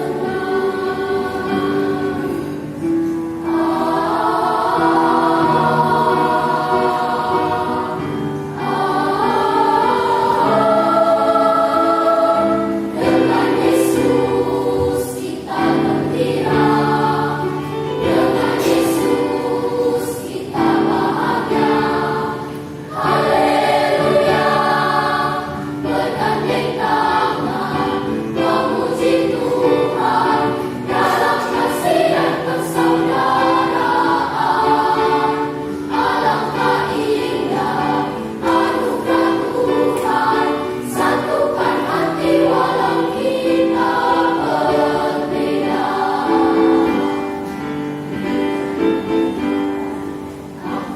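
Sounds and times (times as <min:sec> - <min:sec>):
children's choir singing: 0:00.0 - 0:50.9.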